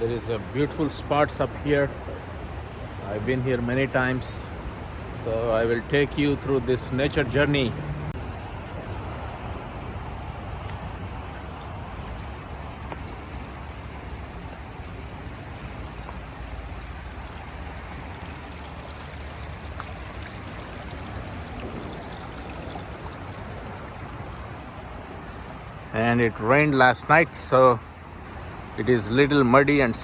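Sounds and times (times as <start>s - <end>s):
stream water flowing: 0.0s - 29.2s.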